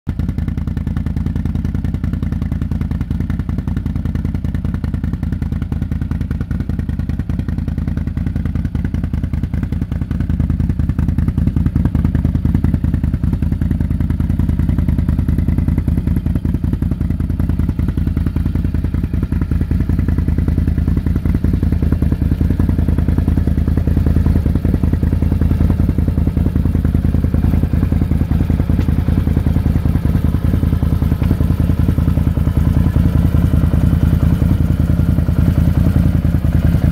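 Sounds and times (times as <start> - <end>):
engine idling: 0.1 - 36.9.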